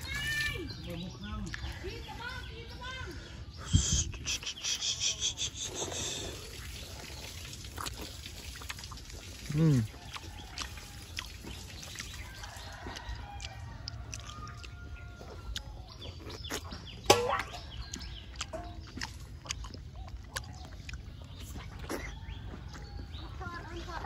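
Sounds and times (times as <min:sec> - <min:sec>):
bird calls: 0:00.0 - 0:08.0, 0:09.4 - 0:24.0
wet mouth smacks and slurps: 0:03.7 - 0:23.2.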